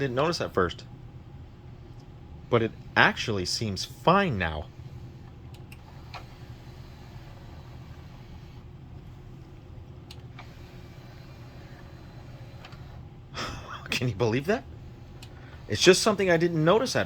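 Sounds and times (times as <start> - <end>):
disc tray mechanism humming: 0.0 - 17.0.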